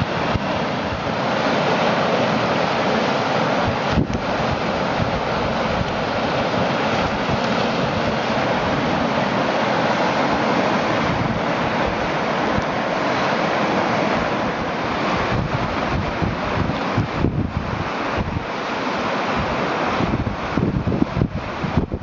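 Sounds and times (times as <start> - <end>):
whitewater rushing: 0.0 - 22.0
wind buffeting microphone: 0.0 - 22.0.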